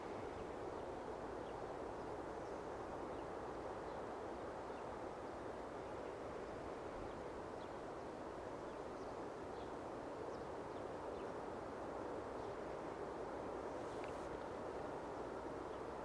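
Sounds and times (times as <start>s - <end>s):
soft background hiss: 0.0s - 16.0s.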